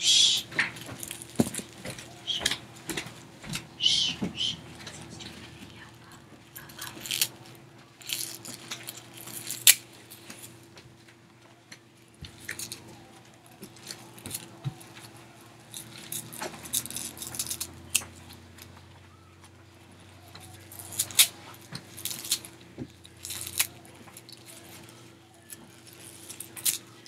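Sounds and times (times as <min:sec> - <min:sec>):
plastic packaging rustling: 0:00.5 - 0:03.8, 0:04.4 - 0:11.2, 0:11.8 - 0:18.8, 0:19.9 - 0:27.0.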